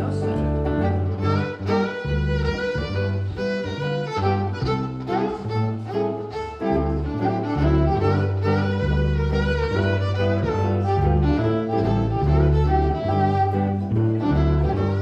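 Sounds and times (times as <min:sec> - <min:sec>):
lead melody: 0:00.0 - 0:15.0
low bass line: 0:00.0 - 0:15.0.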